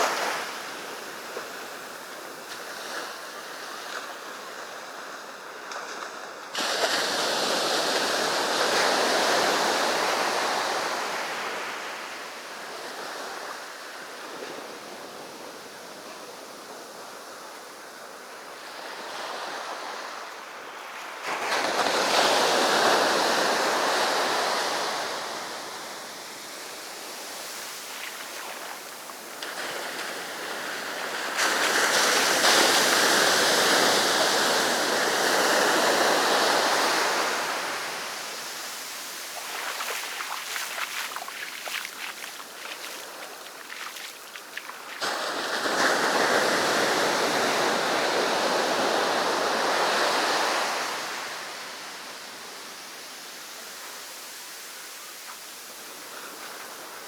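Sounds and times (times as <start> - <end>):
sea waves breaking on beach: 0.0 - 17.6, 18.6 - 52.8.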